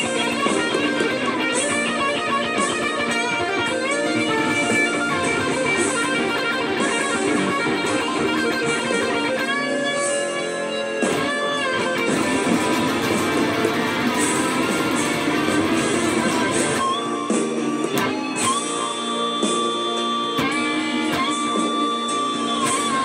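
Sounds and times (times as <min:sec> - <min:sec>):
electric guitar lead solo: 0:00.0 - 0:23.0.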